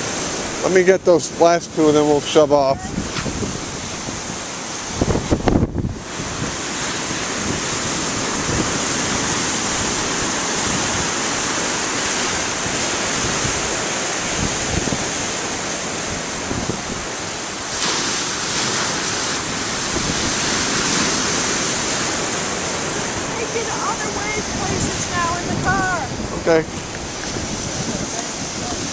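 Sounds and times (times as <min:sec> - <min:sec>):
ocean waves crashing on rocks: 0:00.0 - 0:28.9
wind buffeting microphone: 0:00.0 - 0:28.9.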